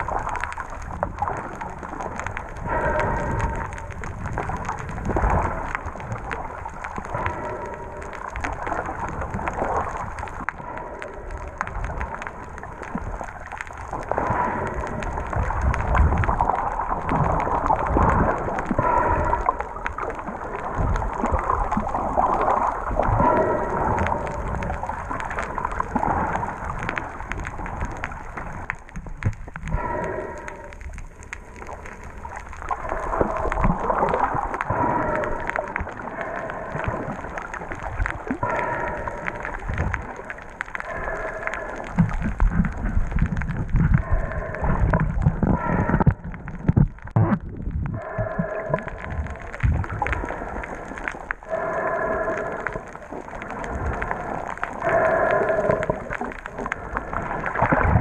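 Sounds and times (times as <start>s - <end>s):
crackle of small clicks: 0.0s - 58.0s
underwater gurgling and bubbling: 0.0s - 58.0s.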